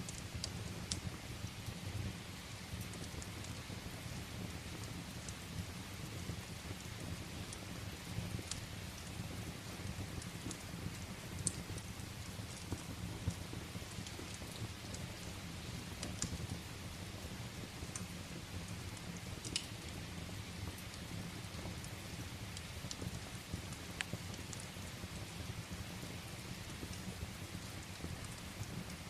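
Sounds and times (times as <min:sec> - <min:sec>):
steady rain: 0:00.0 - 0:29.0
wood fire crackling: 0:00.0 - 0:29.0.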